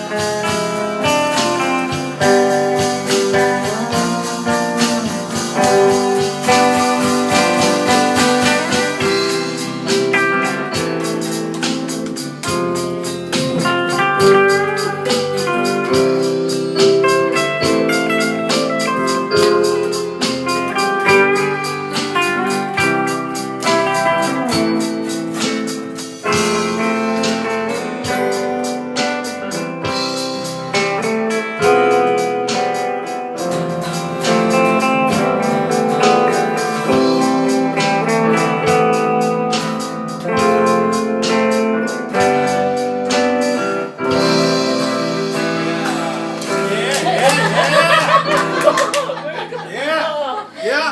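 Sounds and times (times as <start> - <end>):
lead electric guitar melody: 0.0 - 49.7
slow instrumental band music: 0.0 - 50.7.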